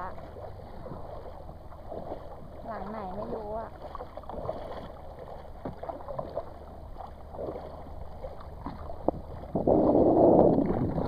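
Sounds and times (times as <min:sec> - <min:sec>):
paddle splashing in water: 0:00.0 - 0:11.0
rushing splash: 0:00.0 - 0:11.0.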